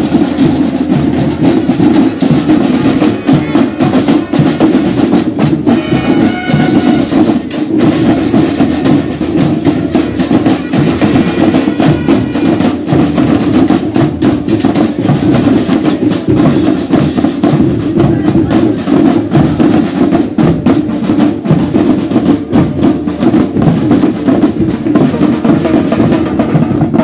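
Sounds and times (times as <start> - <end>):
snare and bass drum cadence: 0.0 - 27.0.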